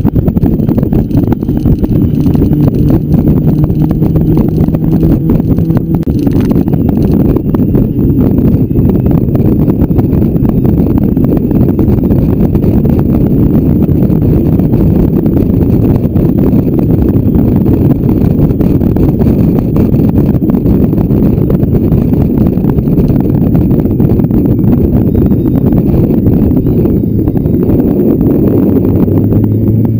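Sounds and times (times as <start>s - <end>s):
motorcycle engine running: 0.0s - 29.9s
wind rumble on microphone: 0.0s - 29.9s.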